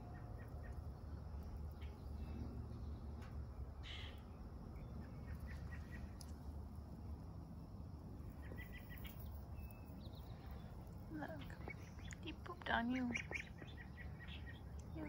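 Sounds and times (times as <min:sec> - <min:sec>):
goslings chirping softly: 0:00.0 - 0:03.2, 0:03.8 - 0:06.4, 0:08.3 - 0:15.0
low background hum: 0:00.0 - 0:15.0.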